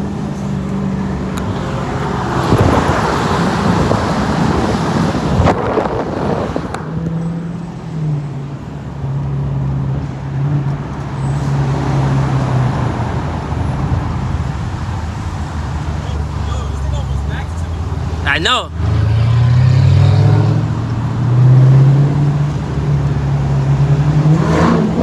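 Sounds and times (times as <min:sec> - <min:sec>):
car engine running hard: 0:00.0 - 0:25.0.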